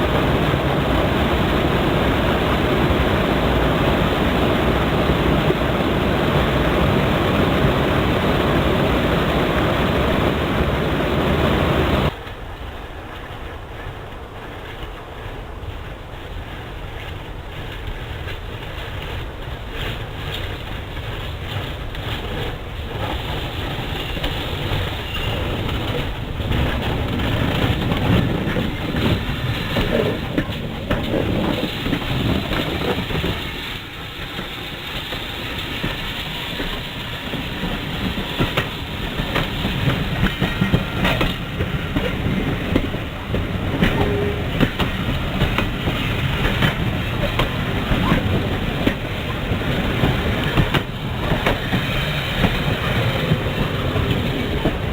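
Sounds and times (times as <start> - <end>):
train rumbling on track: 0.0 - 54.9.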